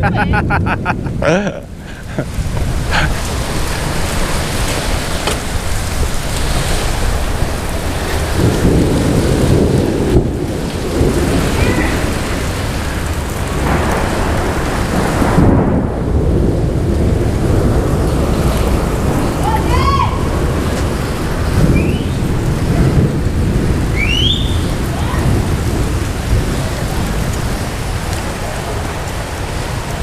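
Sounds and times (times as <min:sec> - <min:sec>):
rolling thunder: 0:00.0 - 0:30.0
steady rain: 0:00.0 - 0:30.0.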